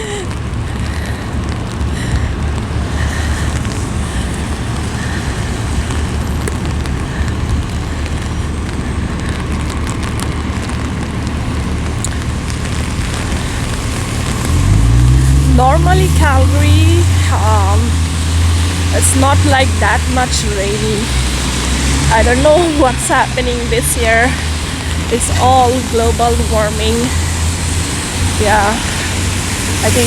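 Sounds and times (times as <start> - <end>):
city street traffic: 0.0 - 30.0
heavy rain on an umbrella: 0.0 - 30.0
steady low rumble: 0.0 - 30.0.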